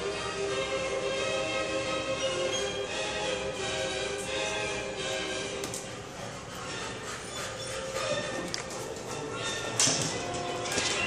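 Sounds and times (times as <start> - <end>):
music with sustained notes: 0.0 - 11.0.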